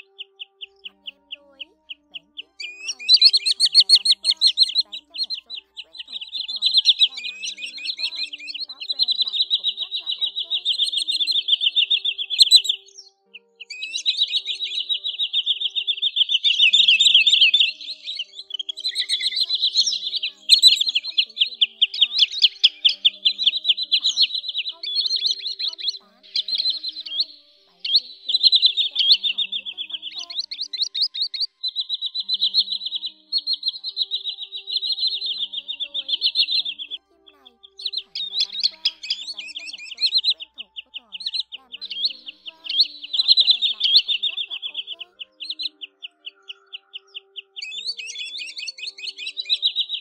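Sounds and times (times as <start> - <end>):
faint background music: 0.0 - 50.0
sandpiper trilling calls: 0.0 - 50.0.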